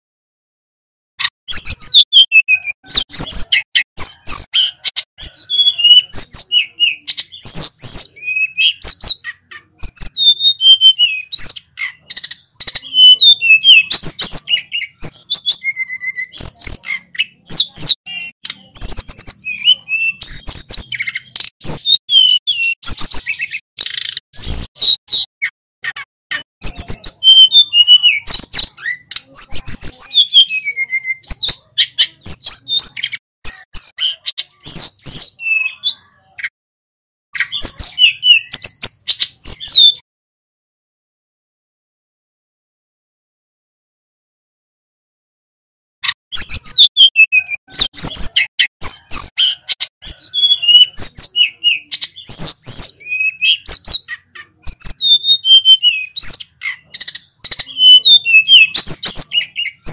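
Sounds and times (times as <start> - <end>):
bird singing whistled phrases: 1.5 - 36.5, 37.4 - 40.0, 46.3 - 59.9.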